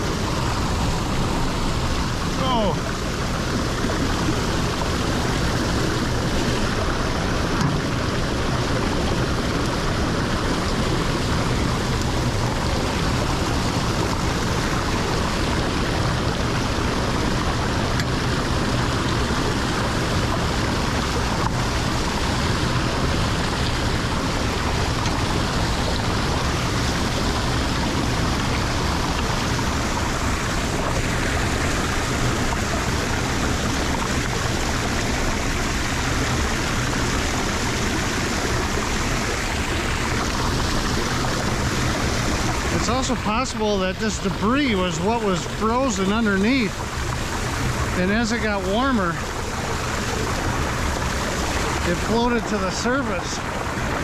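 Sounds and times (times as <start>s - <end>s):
water rushing into drain: 0.0s - 54.0s.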